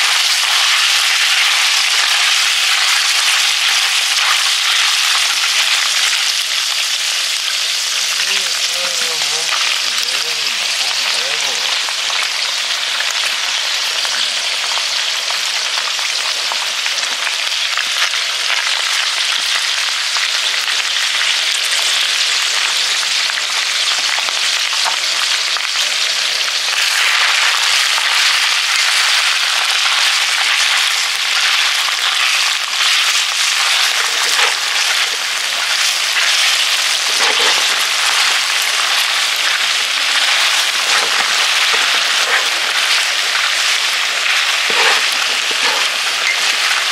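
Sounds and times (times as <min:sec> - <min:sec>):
food sizzling in a pot: 0:00.0 - 0:46.9.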